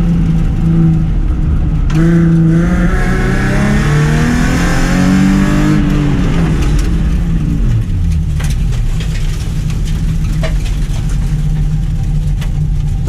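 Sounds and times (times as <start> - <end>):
car engine decelerating: 0.0 - 13.0.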